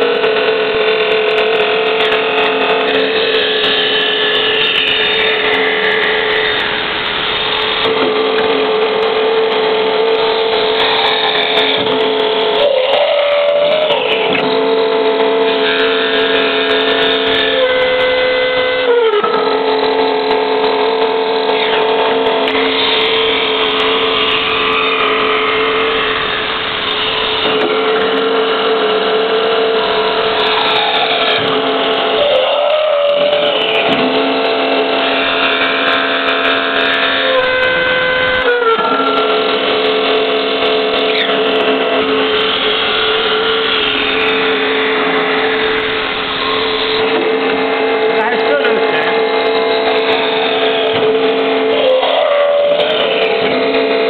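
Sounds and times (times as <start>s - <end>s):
wood lathe cutting wood: 0.0s - 54.0s.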